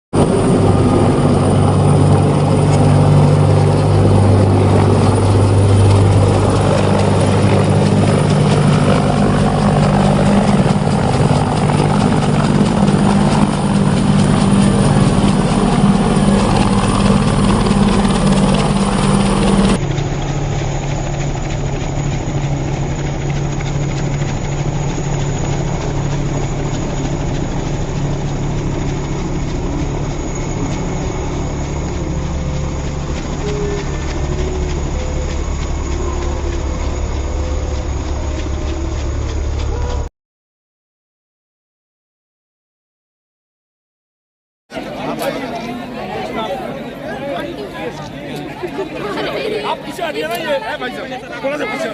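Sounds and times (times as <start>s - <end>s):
helicopter rotor and engine drone: 0.2s - 40.1s, 44.7s - 51.9s.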